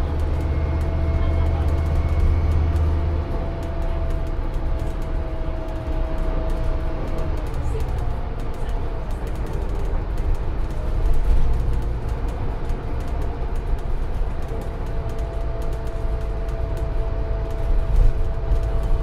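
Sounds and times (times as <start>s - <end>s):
bus diesel engine drone: 0.0s - 19.0s
road rumble: 0.0s - 19.0s.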